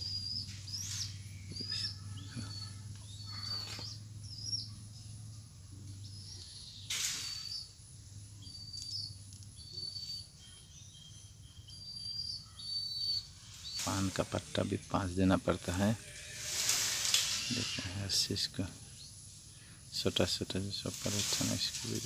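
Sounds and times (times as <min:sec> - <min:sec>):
small birds chirping: 0:00.0 - 0:16.1, 0:17.1 - 0:22.0.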